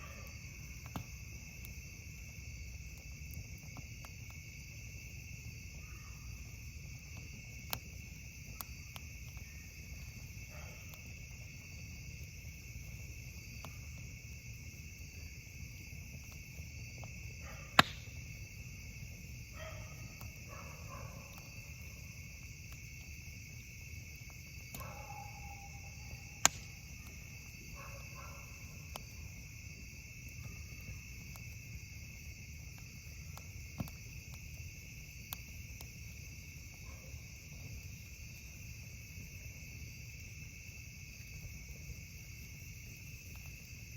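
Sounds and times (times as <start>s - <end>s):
campfire popping: 0.0s - 43.9s
crickets chirping: 0.0s - 43.9s.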